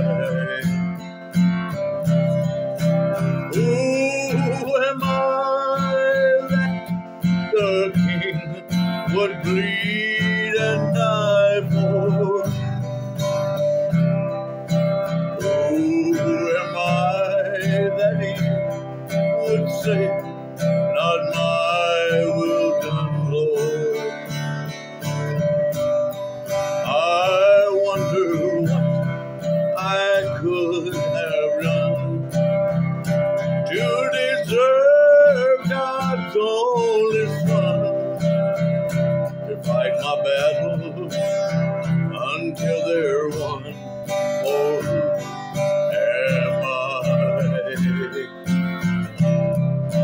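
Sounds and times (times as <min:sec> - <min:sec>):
acoustic guitar strumming: 0:00.0 - 0:50.0
man singing: 0:00.0 - 0:50.0.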